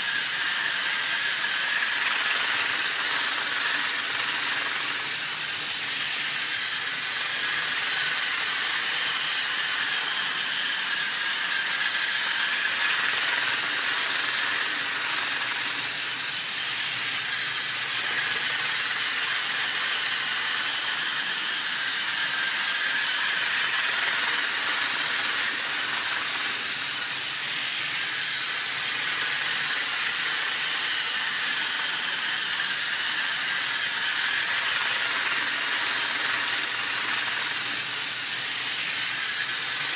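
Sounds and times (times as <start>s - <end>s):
toy train motor whir and rattle: 0.0s - 39.9s.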